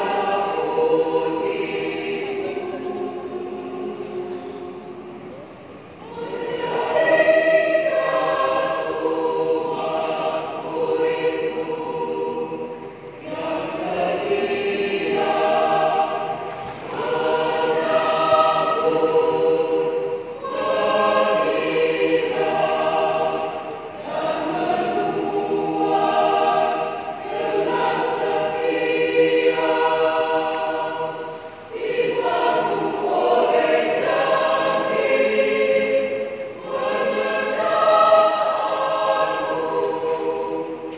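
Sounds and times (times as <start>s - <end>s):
choir singing: 0.0s - 40.9s.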